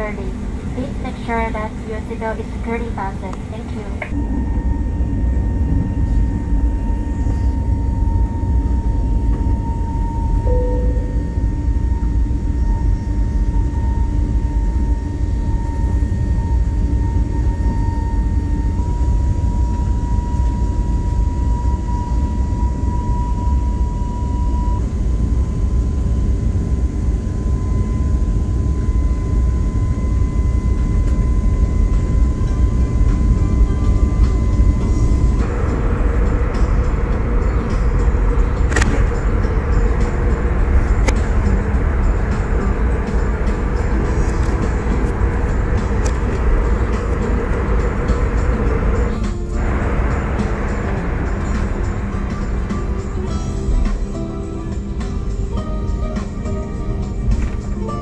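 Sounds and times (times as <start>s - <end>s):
jet engine whine: 0.0s - 58.0s
low rumble of engines and airflow: 0.0s - 58.0s.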